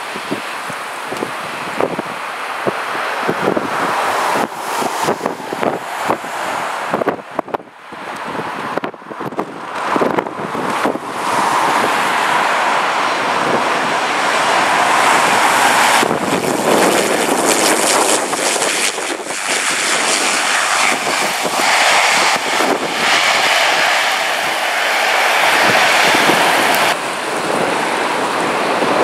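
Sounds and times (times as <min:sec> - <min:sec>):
turboprop plane landing: 0:00.0 - 0:29.0
wind gusts on microphone: 0:00.0 - 0:29.0.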